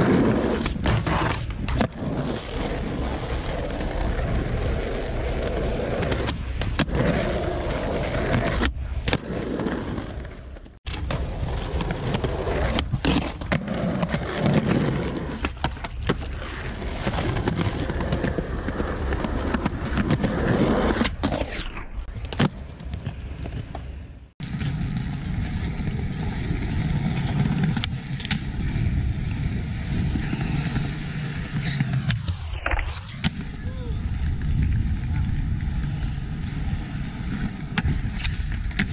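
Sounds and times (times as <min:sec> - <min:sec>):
skateboard wheels rolling: 0:00.0 - 0:38.9.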